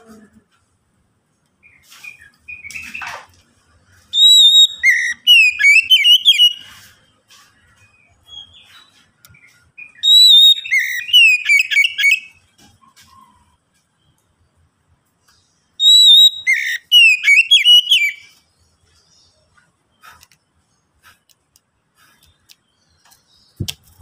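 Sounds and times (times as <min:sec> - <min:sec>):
songbird singing: 0:00.0 - 0:24.0
soft bird calls: 0:01.4 - 0:24.0.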